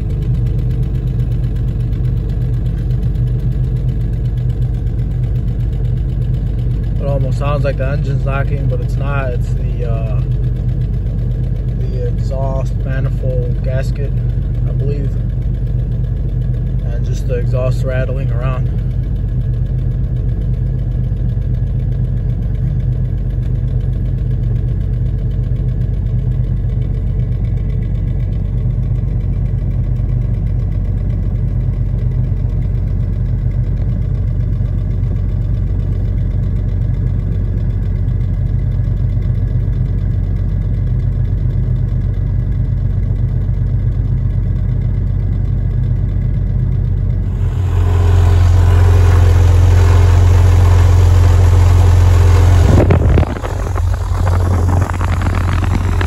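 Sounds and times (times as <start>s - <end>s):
car engine idling: 0.0s - 56.0s
engine ticking knock: 0.0s - 56.0s
exhaust rattling: 0.0s - 56.0s.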